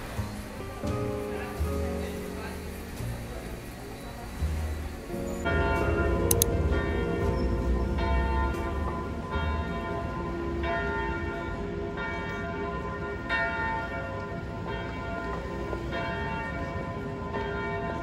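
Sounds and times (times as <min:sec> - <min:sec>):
church bells tolling: 0:00.0 - 0:18.0.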